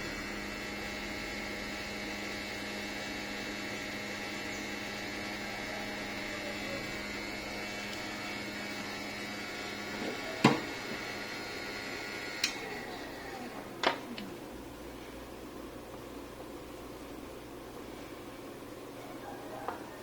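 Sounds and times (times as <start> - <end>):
hot-air station humming: 0.0 - 20.0.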